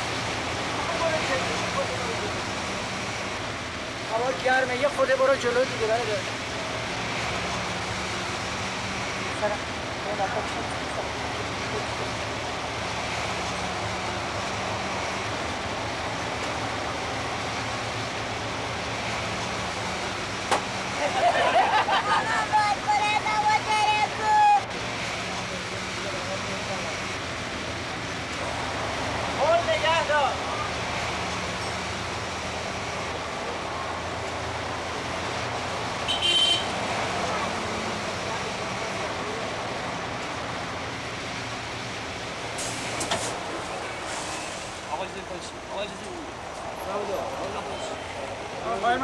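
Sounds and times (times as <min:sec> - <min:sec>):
bus engine and road noise: 0:00.0 - 0:49.0.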